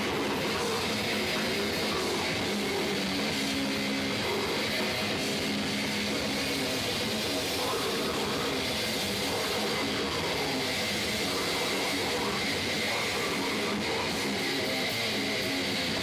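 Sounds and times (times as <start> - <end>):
distorted electric guitar: 0.0 - 16.0
drums: 0.0 - 16.0
screamed vocals: 0.0 - 16.0.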